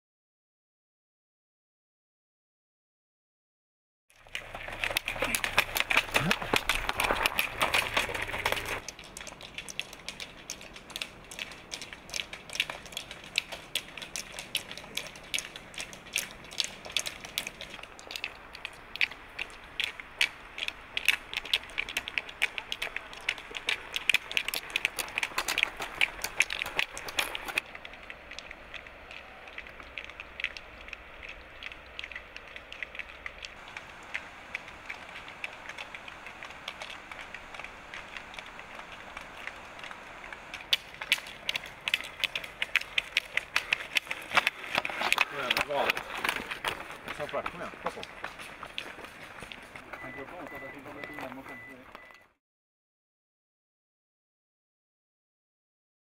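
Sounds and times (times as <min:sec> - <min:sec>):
poles and shoes striking gravel: 0:04.2 - 0:52.1.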